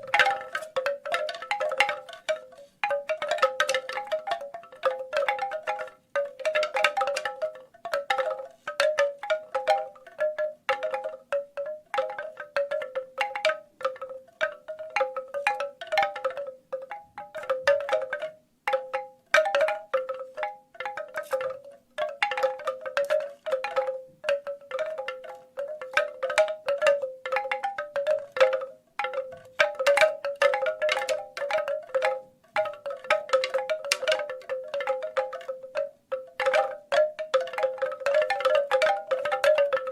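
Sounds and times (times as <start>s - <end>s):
bamboo wind chimes clattering: 0.0s - 39.9s.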